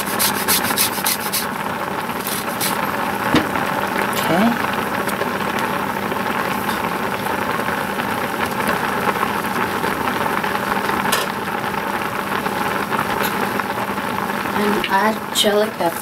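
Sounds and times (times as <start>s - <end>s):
sauce bubbling in a skillet: 0.0s - 16.0s.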